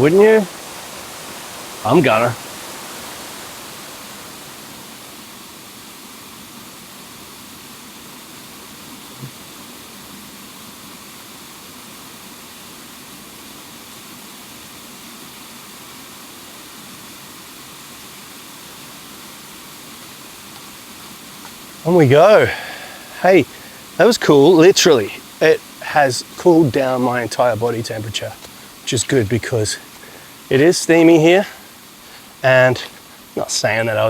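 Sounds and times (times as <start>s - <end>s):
waterfall rushing: 0.0s - 11.7s, 17.8s - 34.0s.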